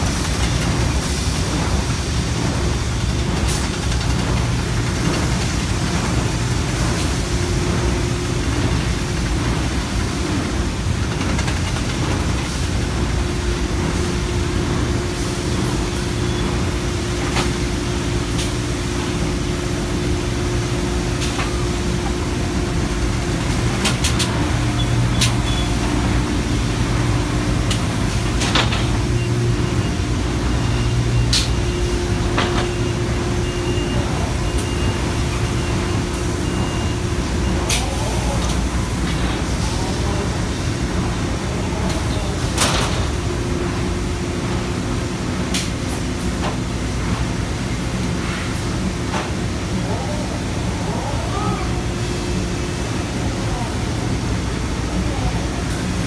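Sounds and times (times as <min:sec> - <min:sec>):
factory machinery humming: 0:00.0 - 0:56.0.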